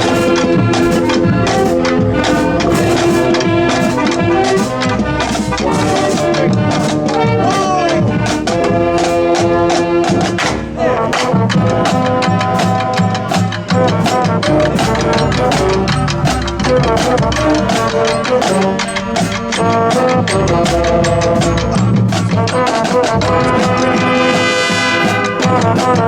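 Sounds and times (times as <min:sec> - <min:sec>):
brass melody: 0:00.0 - 0:26.0
steady drum beat: 0:00.0 - 0:26.0.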